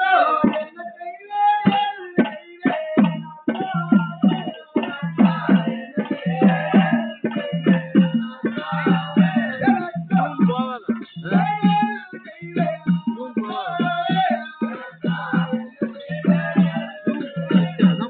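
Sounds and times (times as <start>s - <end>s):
hand drum beat: 0.0s - 18.0s.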